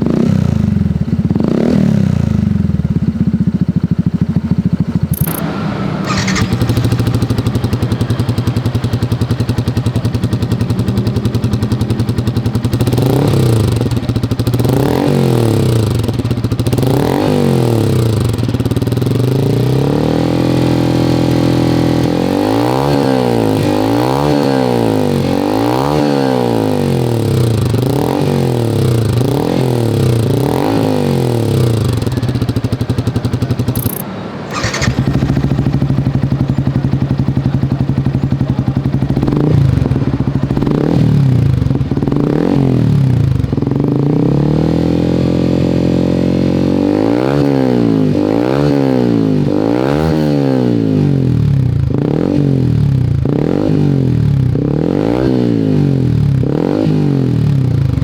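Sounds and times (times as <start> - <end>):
scooter engine idling and revving: 0.0 - 58.0.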